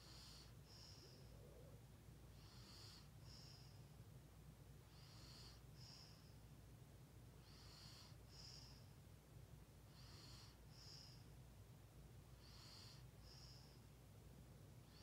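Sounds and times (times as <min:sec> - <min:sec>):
faint paired hisses: 0:00.0 - 0:15.0
low steady hum: 0:00.0 - 0:15.0.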